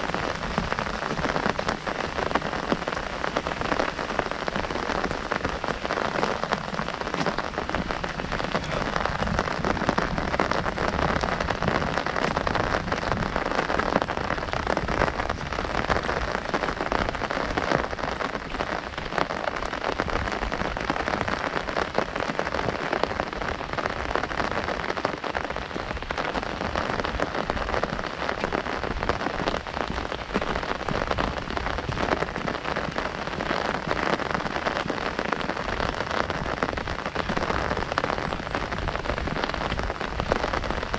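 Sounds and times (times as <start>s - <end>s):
heavy rain on an umbrella: 0.0s - 40.9s.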